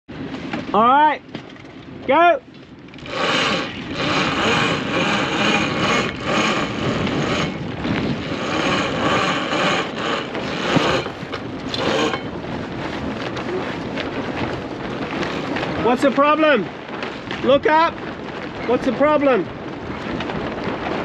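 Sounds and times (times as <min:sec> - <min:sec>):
sail cloth rustling: 0:02.5 - 0:21.0.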